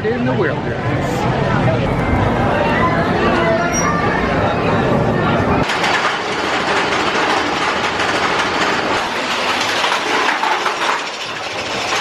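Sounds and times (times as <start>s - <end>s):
roller coaster clattering on track: 1.6s - 12.0s.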